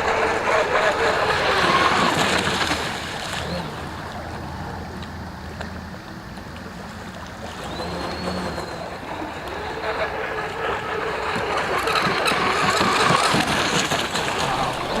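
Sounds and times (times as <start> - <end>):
high motor whine: 0.0 - 15.0
water wash and spray: 0.0 - 15.0.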